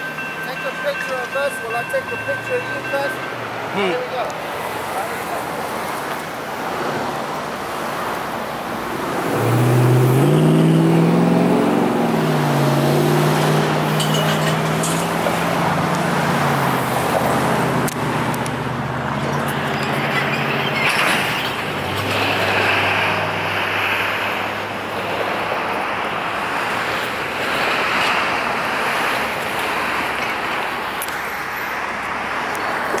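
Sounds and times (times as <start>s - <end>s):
traffic passing on highway: 0.0s - 33.0s.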